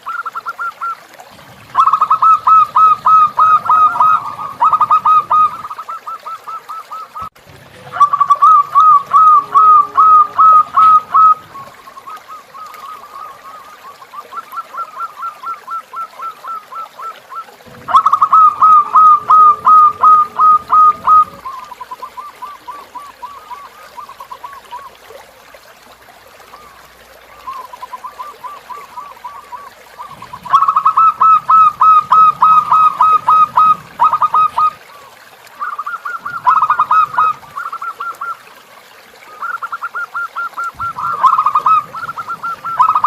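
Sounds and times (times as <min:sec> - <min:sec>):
dove calling: 0:00.0 - 0:01.0, 0:01.6 - 0:25.0, 0:26.5 - 0:38.5, 0:39.3 - 0:43.0.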